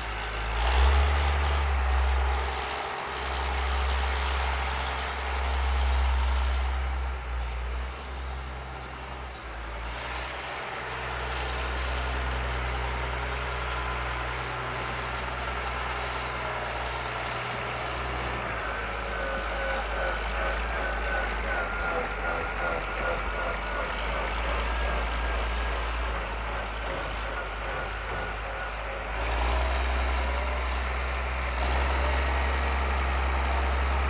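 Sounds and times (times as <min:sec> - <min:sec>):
traffic noise: 0:00.0 - 0:34.0
vehicle engines rumbling: 0:00.0 - 0:34.0.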